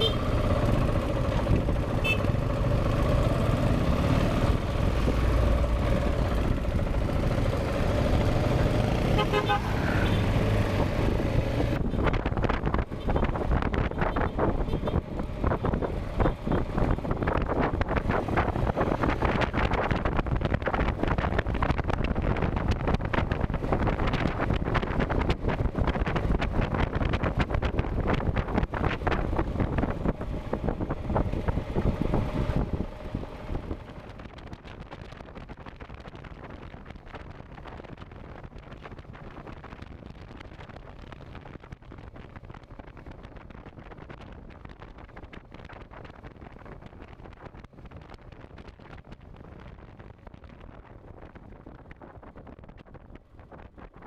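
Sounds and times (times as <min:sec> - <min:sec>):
wind buffeting microphone: 0:00.0 - 0:09.1, 0:09.7 - 0:54.0
motorcycle engine running: 0:00.0 - 0:54.0.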